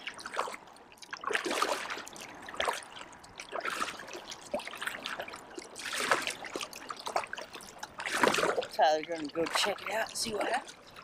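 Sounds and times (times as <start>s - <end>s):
paddle strokes in water: 0.0s - 11.0s
water trickling and splashing: 0.0s - 11.0s.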